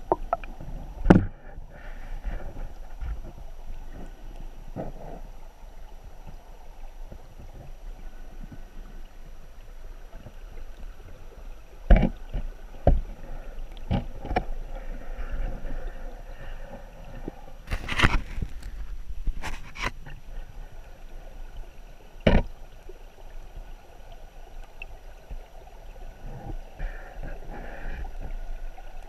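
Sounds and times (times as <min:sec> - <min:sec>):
muffled underwater water rush: 0:00.0 - 0:29.0.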